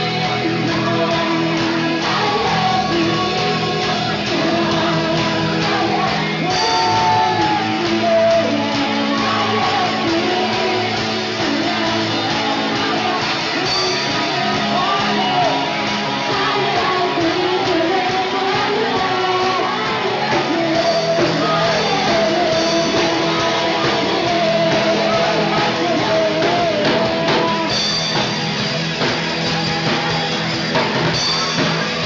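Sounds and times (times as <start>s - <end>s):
group singing: 0.0s - 27.9s
live band playing: 0.0s - 32.0s.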